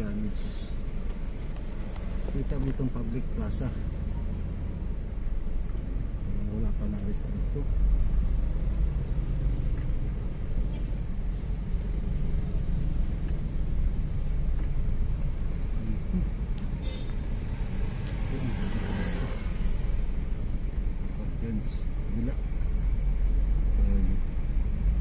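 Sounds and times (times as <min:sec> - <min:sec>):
vehicle rumbling on the move: 0:00.0 - 0:25.0.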